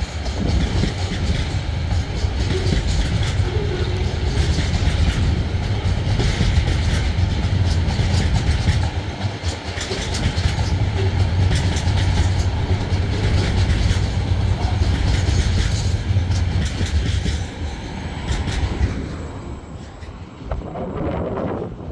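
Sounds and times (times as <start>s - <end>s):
wheels clicking over rail joints: 0.0s - 20.6s
freight train rumbling past: 0.0s - 21.9s.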